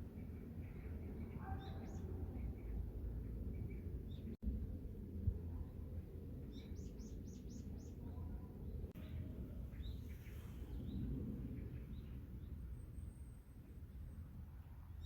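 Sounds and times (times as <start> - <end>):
small songbirds chirping: 0.0 - 4.4, 5.6 - 15.0
steady low rumble: 0.0 - 15.0.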